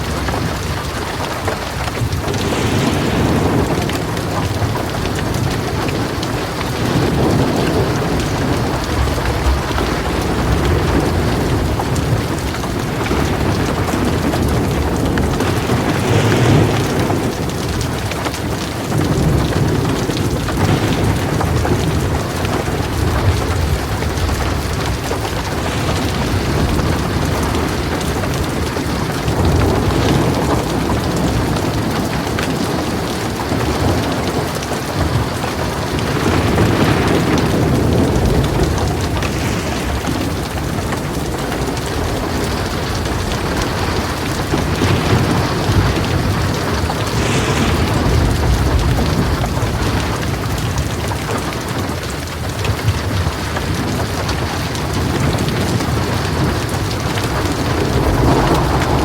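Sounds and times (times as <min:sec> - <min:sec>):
heavy rain falling: 0:00.0 - 0:59.0
thunder rolling: 0:00.0 - 0:59.0.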